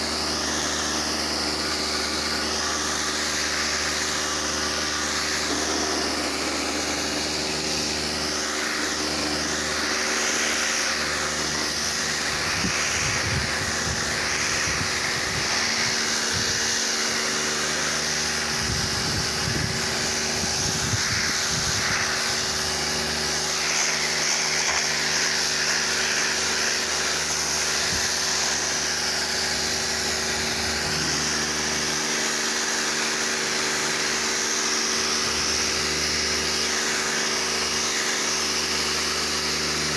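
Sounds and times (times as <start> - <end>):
pressure washer spraying: 0.0 - 39.9.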